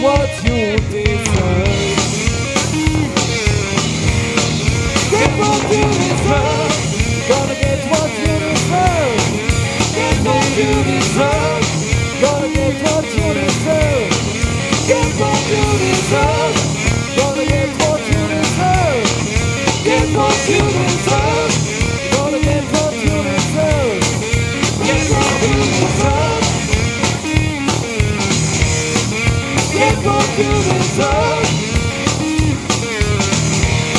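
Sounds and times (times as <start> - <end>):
bass guitar: 0.0 - 33.9
drum kit: 0.0 - 33.9
electric guitar lead bending notes: 0.6 - 33.9.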